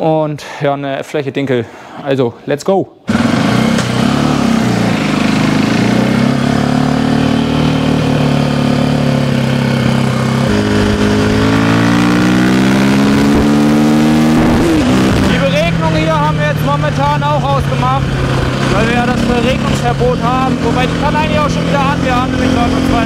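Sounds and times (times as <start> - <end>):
dirt bike engine: 3.0 - 23.0.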